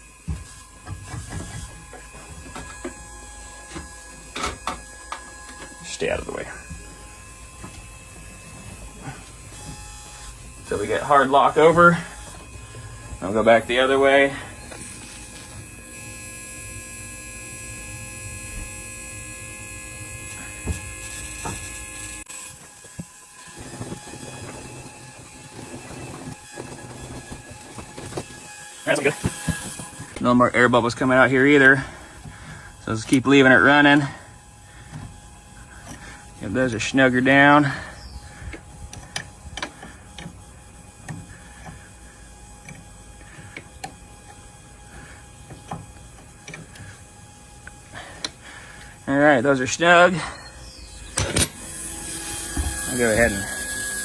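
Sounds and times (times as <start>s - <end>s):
pump humming and whining: 0.0s - 54.0s.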